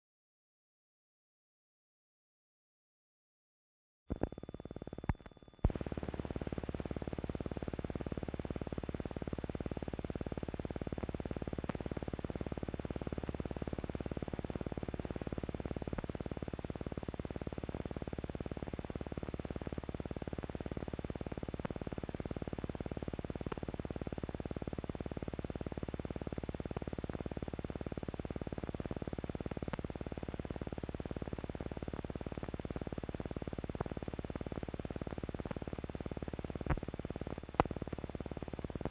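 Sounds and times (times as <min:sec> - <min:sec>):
film soundtrack hiss and hum: 0:05.1 - 0:38.9.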